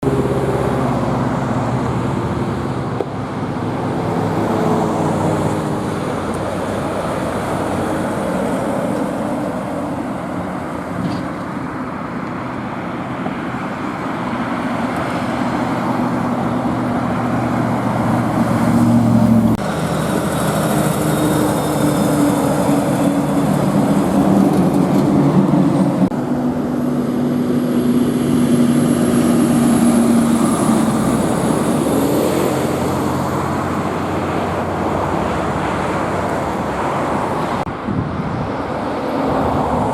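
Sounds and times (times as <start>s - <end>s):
truck engine drone: 0.0s - 39.9s
tyre and road noise: 0.0s - 39.9s.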